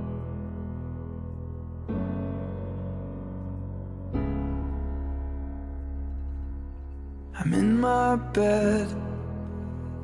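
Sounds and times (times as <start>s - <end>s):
slow piano chords: 0.0s - 10.0s.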